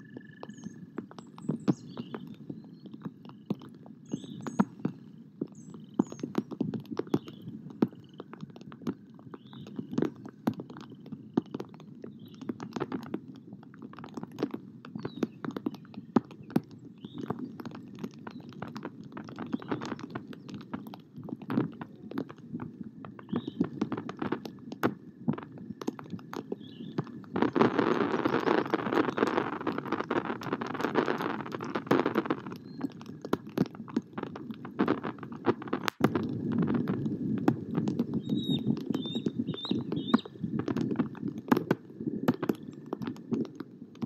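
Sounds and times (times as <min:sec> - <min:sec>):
rain dripping on microphone: 0:00.0 - 0:44.0.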